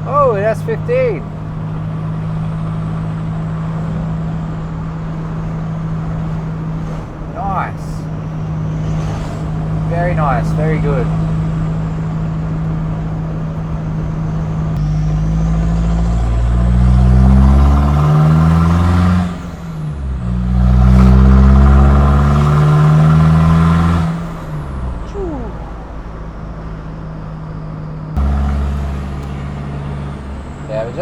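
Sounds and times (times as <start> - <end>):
turbo engine accelerating: 0.0 - 31.0.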